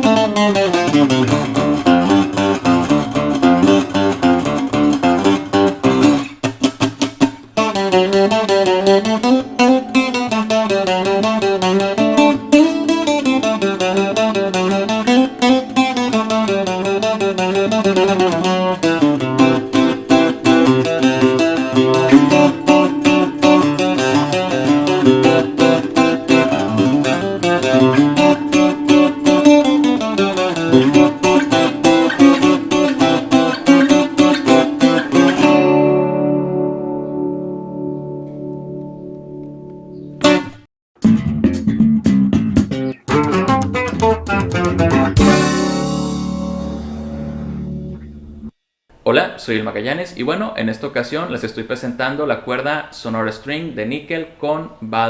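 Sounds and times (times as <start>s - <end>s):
stringed guitar chords and runs: 0.0s - 48.5s.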